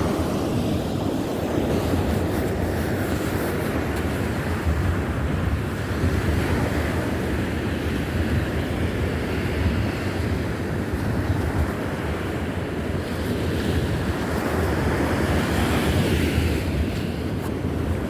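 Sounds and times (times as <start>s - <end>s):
surf washing onto sandy beach: 0.0s - 18.0s
wind rumbling on microphone: 0.0s - 18.0s.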